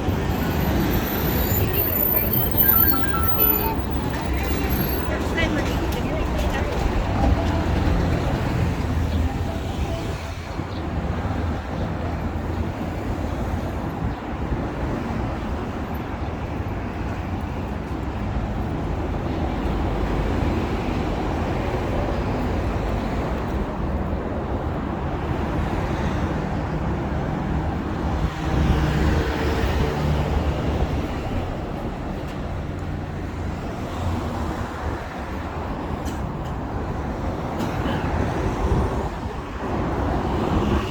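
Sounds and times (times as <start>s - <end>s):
rumble of passing cars: 0.0s - 40.9s.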